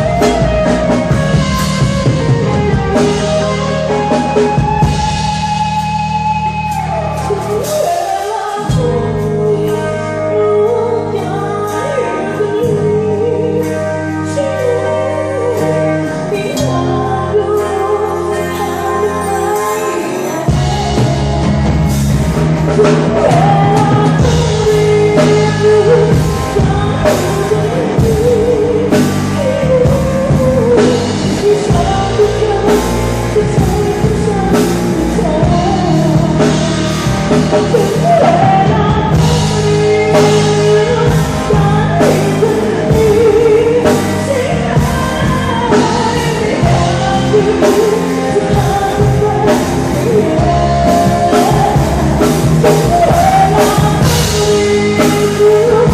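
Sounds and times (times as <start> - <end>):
drum kit beat: 0.0 - 14.8, 15.5 - 55.9
guitar: 0.0 - 55.9
person singing: 0.0 - 55.9.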